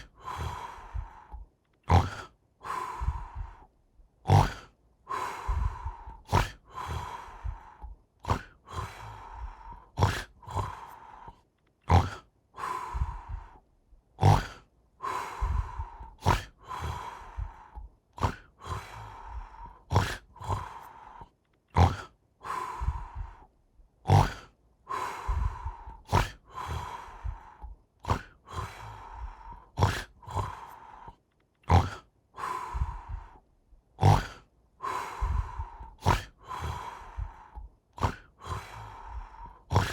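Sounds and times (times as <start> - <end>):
hissing breath out: 0.0 - 3.7, 4.3 - 13.6, 14.2 - 23.5, 24.1 - 39.9
snoring with snorts: 0.0 - 13.6, 14.2 - 33.4, 34.0 - 39.9.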